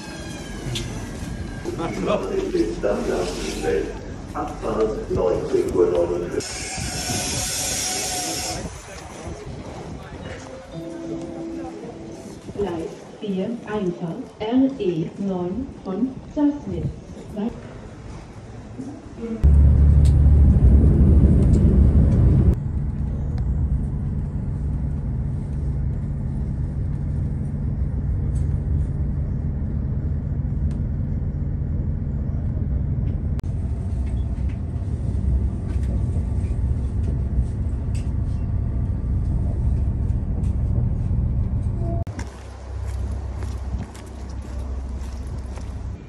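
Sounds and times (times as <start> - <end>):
train rumble inside carriage: 0.0 - 14.4, 15.7 - 46.0.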